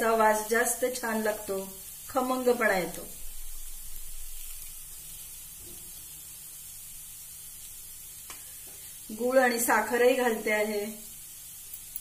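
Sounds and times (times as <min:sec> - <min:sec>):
pan sizzling: 0:00.0 - 0:12.0.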